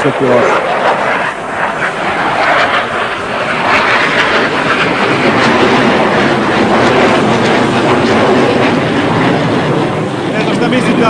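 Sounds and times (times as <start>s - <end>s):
fighter jet engine roaring: 0.0s - 11.0s.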